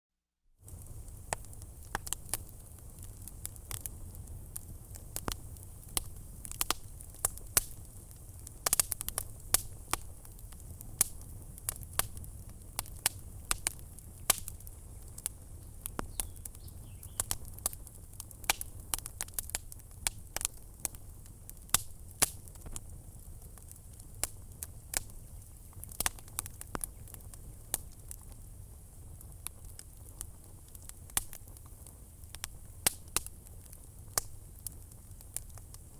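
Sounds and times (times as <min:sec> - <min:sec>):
fire popping: 0:00.6 - 0:35.9
wood fire crackling: 0:00.6 - 0:35.9.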